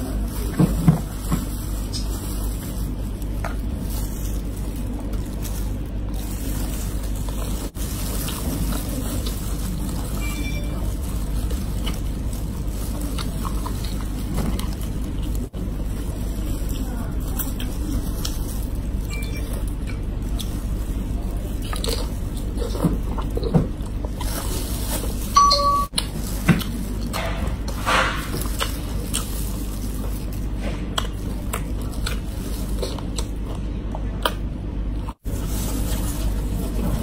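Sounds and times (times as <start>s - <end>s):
shell crackles and chewing: 0.0s - 37.0s
steady low hum: 0.0s - 37.0s.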